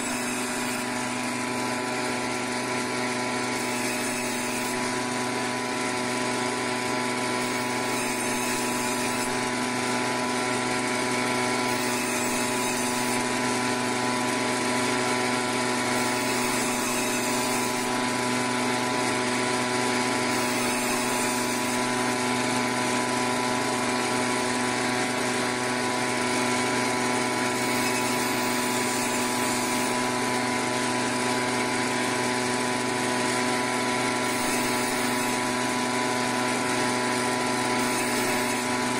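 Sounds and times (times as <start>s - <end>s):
band saw running: 0.0s - 38.9s.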